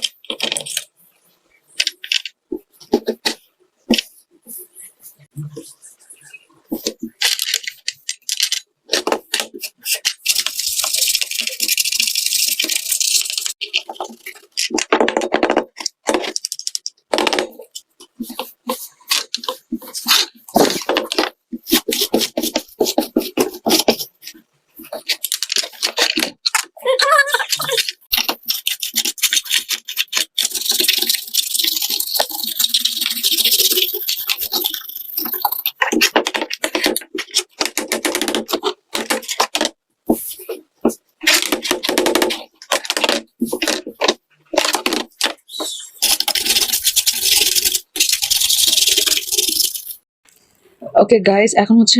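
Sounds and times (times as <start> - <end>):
brush scrubbing plastic keycaps: 6.7 - 50.0
keycaps clicking and clattering: 6.7 - 50.0.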